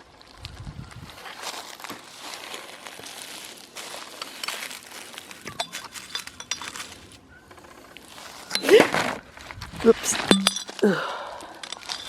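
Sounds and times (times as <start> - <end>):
trash crinkling and rustling: 0.2 - 12.0.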